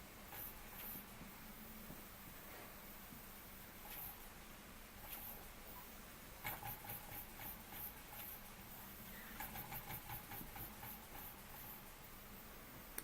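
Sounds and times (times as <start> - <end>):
boiler ticking and hissing: 0.0 - 13.0.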